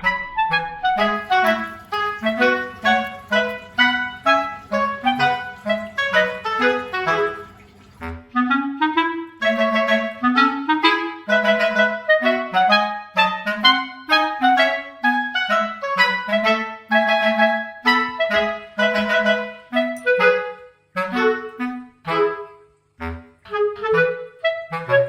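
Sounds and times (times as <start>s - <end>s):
bouncy background music: 0.0s - 21.6s.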